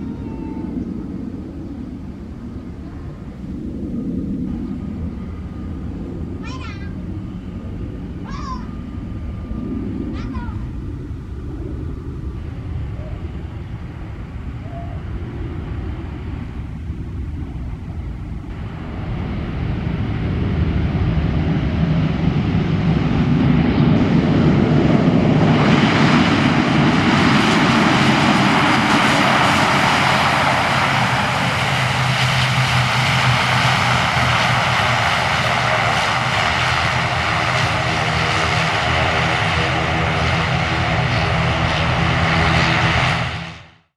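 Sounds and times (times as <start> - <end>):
airplane engine flying low: 0.0 - 43.9.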